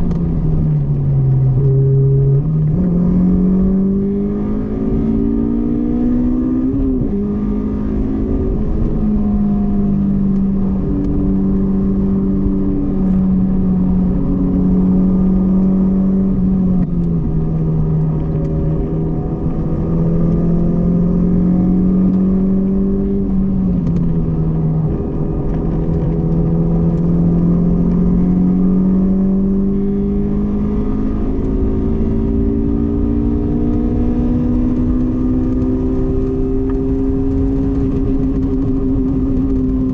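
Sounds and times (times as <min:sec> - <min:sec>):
car engine running hard: 0:00.0 - 0:39.9.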